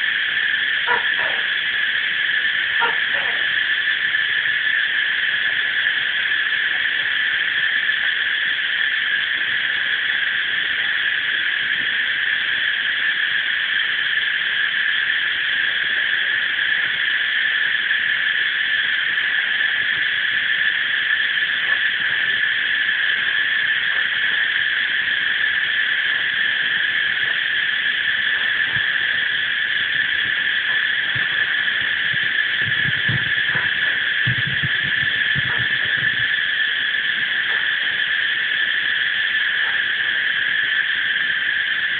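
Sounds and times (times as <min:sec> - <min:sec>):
cicadas droning: 0:00.0 - 0:41.9.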